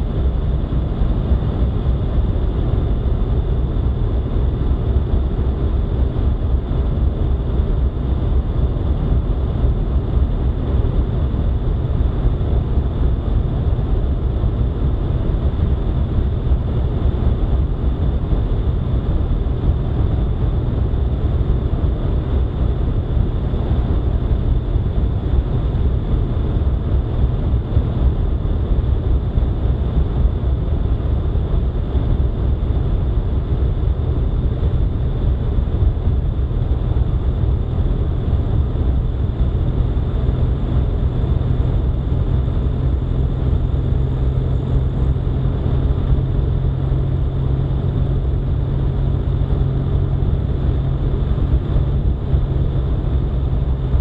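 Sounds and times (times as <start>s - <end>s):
low hum: 0.0s - 54.0s
vehicle driving rumble: 0.0s - 54.0s.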